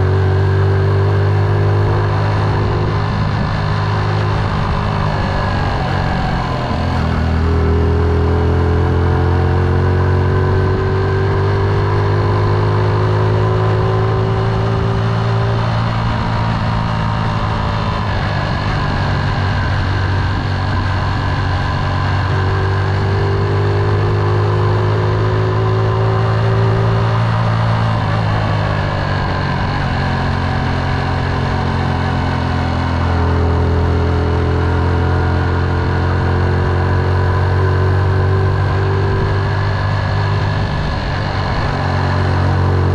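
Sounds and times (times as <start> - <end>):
motorcycle engine droning: 0.0 - 42.9.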